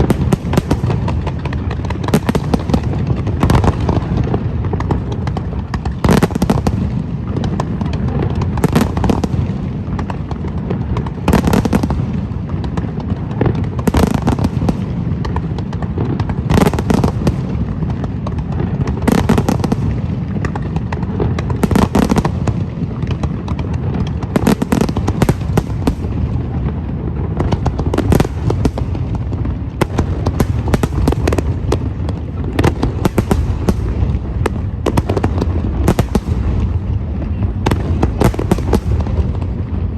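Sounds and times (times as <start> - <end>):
fireworks rumble and crackle: 0.0 - 39.9.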